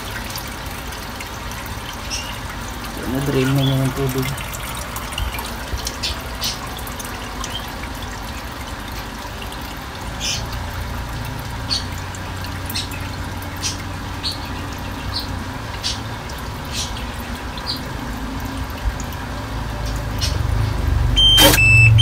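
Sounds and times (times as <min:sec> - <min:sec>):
water dripping and trickling: 0:00.0 - 0:22.0.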